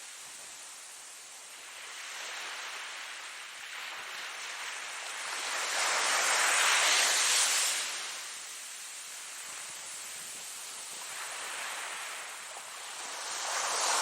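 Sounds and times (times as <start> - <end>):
ocean waves washing ashore: 0.1 - 14.0.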